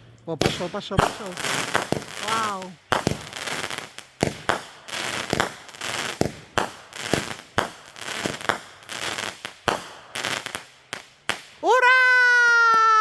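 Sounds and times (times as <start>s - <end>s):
crackling hiss: 0.0s - 13.0s
fireworks bangs: 0.0s - 13.0s.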